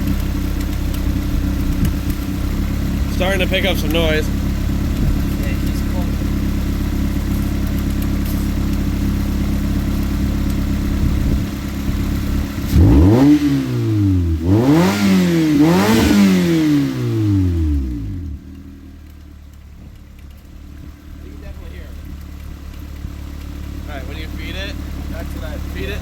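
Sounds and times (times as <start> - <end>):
car engine revving: 0.0 - 19.2, 19.8 - 26.0.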